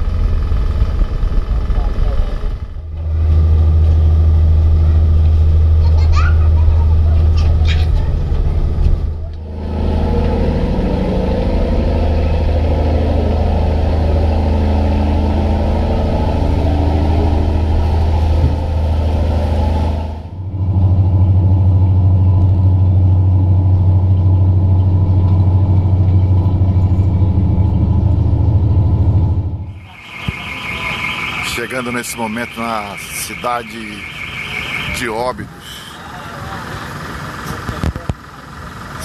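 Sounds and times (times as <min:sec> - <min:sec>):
boat engines droning: 0:00.0 - 0:39.0.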